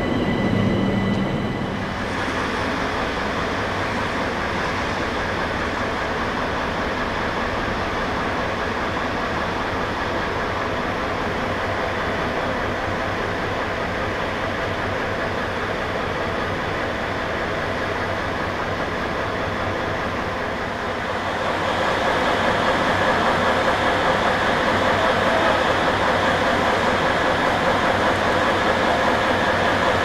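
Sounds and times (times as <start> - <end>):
diesel railcar engine running: 0.0 - 30.0
electric locomotive hum: 0.0 - 30.0.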